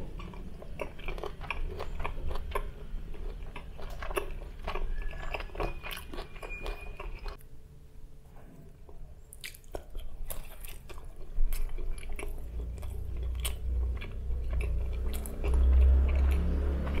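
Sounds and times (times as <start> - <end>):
crunchy pastry chewing: 0.0 - 7.4, 8.9 - 17.0.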